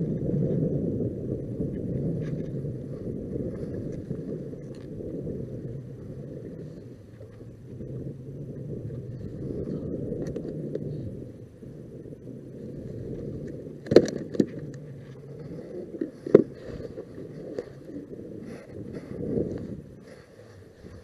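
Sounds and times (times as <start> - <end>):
wind and water against kayak: 0.0 - 21.0.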